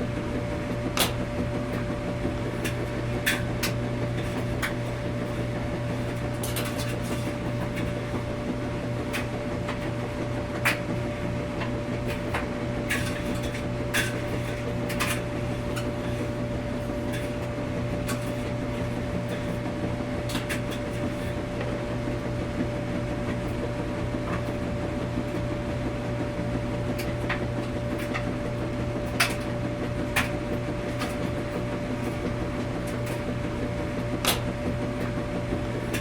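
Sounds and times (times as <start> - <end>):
washing machine running: 0.0 - 36.0.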